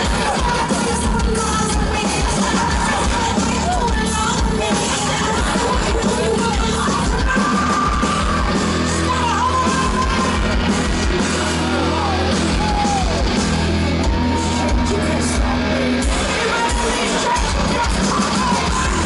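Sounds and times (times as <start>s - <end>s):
heavy metal band playing: 0.0s - 19.0s
person singing: 0.0s - 19.0s.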